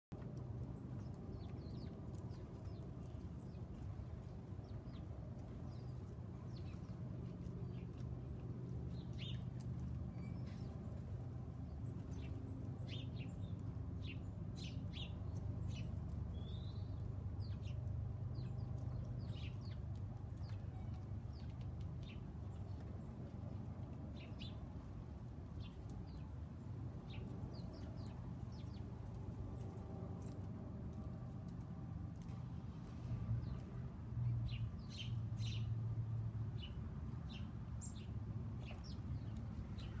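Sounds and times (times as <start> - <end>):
small songbirds chirping: 0.2 - 40.0.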